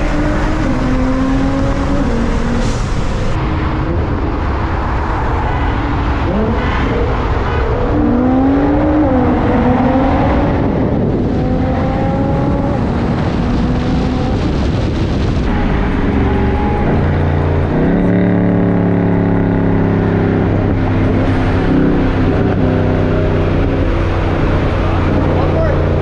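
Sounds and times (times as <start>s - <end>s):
car engine running loudly: 0.0s - 26.0s.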